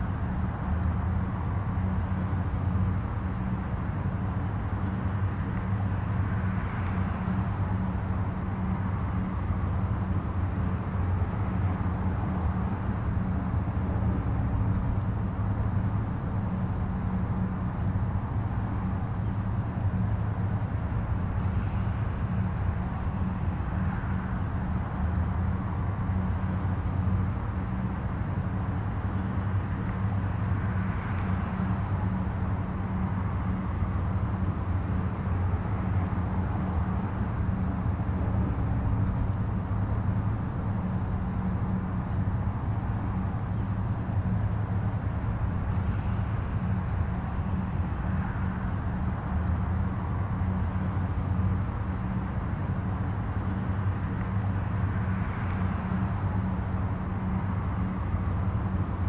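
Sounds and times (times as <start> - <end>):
distant highway traffic rumble: 0.0 - 59.0
vehicles passing: 0.0 - 59.0.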